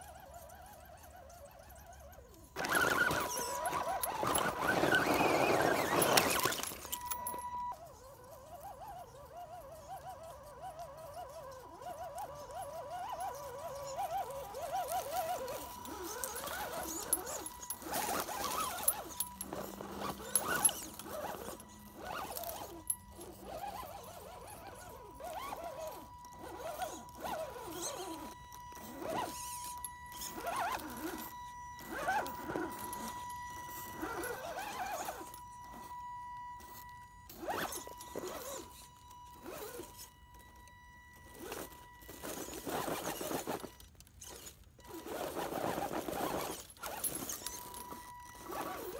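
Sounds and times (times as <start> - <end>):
electric motor high whine: 0.0 - 48.9
tyres scraping and crunching on rocks: 0.1 - 48.9.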